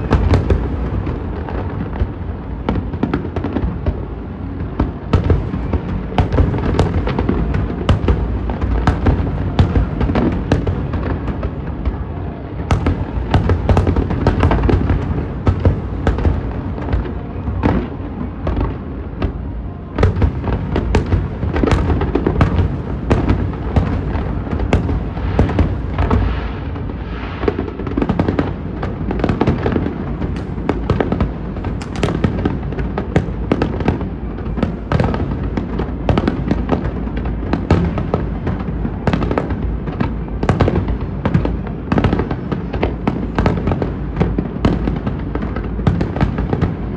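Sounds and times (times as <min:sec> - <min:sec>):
fireworks cracking: 0:00.0 - 0:46.9
low rumble of fireworks booms: 0:00.0 - 0:46.9.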